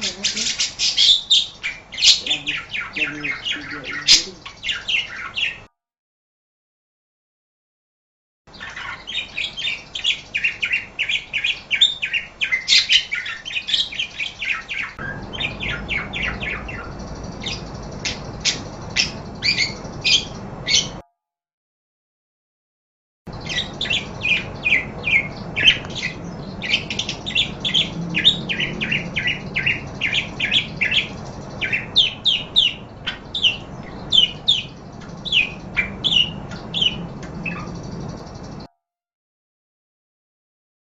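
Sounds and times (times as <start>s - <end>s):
parakeets chirping: 0.0s - 5.7s, 8.5s - 21.0s, 23.3s - 38.7s.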